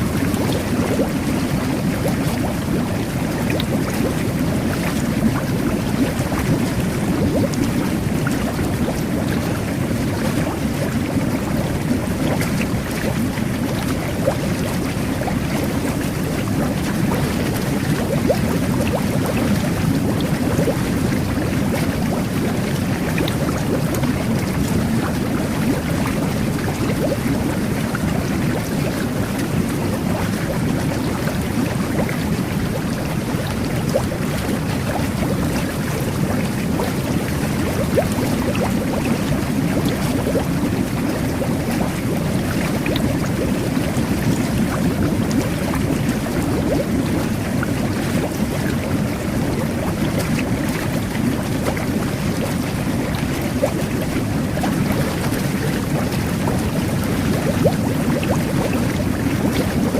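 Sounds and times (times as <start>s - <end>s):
jet bath bubbling water: 0.0s - 59.9s.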